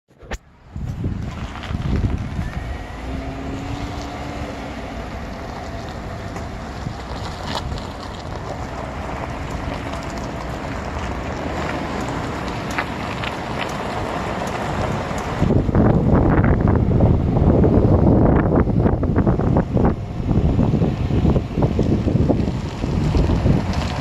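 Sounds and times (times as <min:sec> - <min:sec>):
pickup truck road noise: 0:00.1 - 0:24.0.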